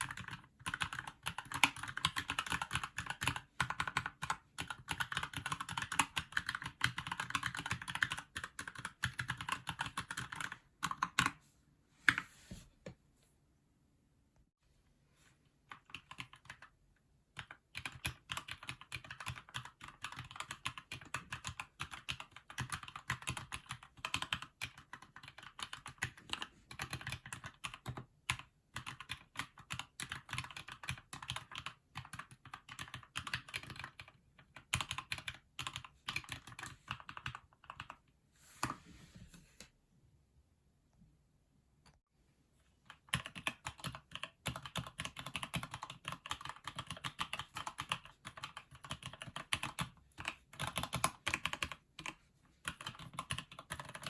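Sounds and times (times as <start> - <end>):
typing on mechanical keyboard: 0.0 - 11.4, 15.7 - 16.7, 17.4 - 38.0, 42.9 - 54.0.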